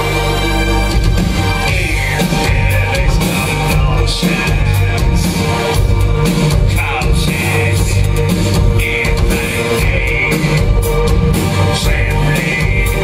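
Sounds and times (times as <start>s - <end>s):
band playing live: 0.0s - 13.0s
heavy drum beat: 0.0s - 13.0s
person singing: 1.7s - 13.0s.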